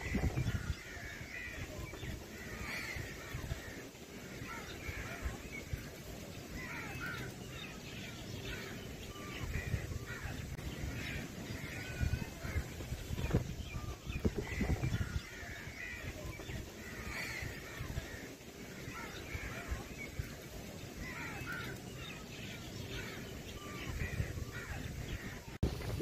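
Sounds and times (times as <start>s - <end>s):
crows calling: 0.0s - 25.9s.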